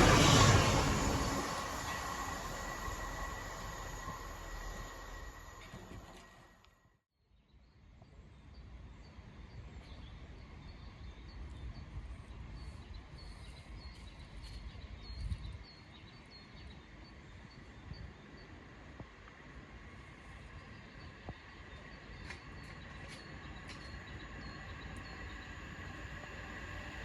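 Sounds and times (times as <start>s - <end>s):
low wind rumble: 0.0s - 6.6s, 8.4s - 27.0s.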